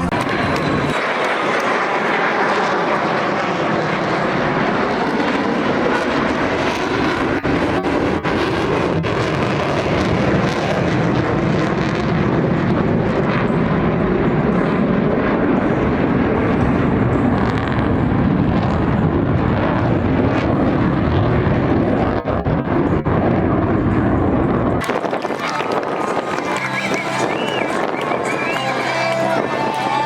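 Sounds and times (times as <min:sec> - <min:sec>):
jet engines in flight: 0:00.0 - 0:30.0.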